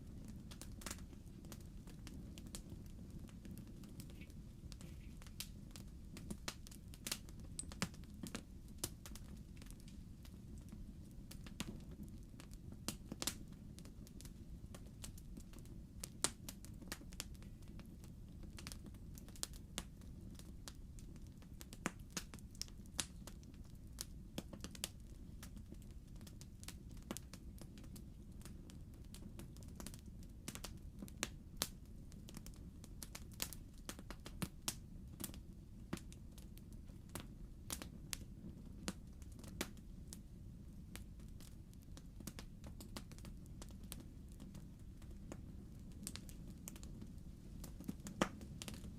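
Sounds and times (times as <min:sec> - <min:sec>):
low background noise: 0:00.0 - 0:48.9
wood fire crackling: 0:00.0 - 0:48.9.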